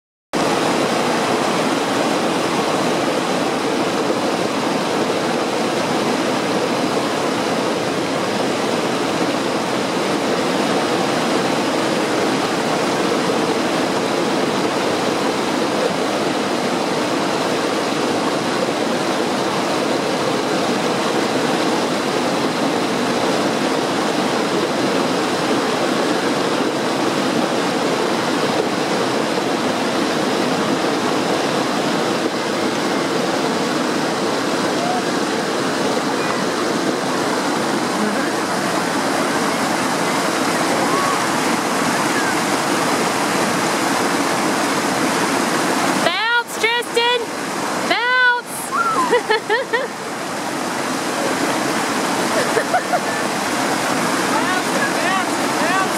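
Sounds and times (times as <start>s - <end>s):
river rapids rushing over boulders: 0.4s - 55.9s.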